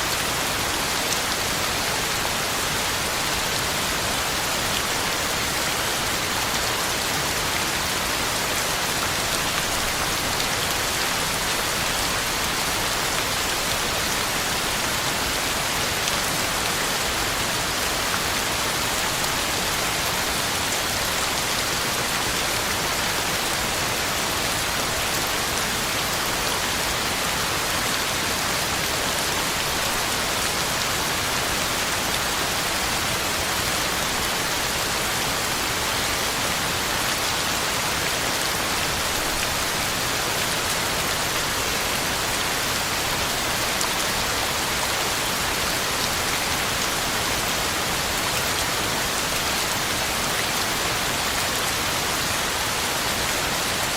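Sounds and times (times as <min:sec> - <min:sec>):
heavy rain on ground and leaves: 0:00.0 - 0:53.9.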